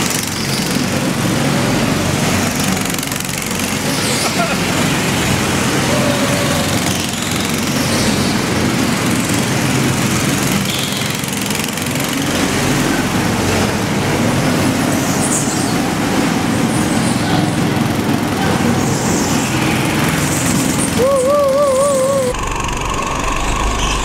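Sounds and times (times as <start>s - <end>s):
go-kart engines running: 0.0s - 24.0s.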